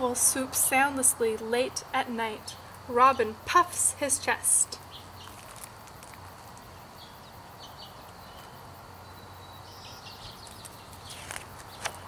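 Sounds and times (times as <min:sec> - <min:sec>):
faint steady background hiss: 0:00.0 - 0:12.0.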